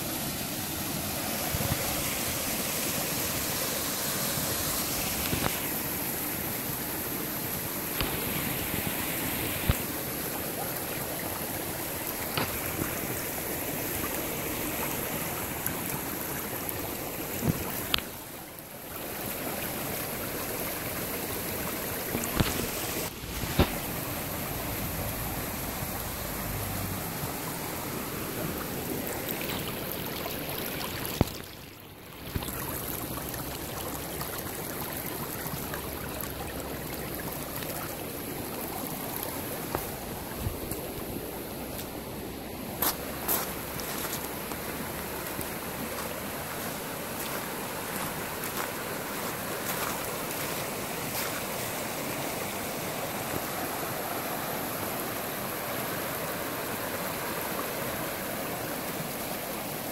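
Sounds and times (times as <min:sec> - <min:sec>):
stream running over gravel: 0:00.0 - 0:59.9.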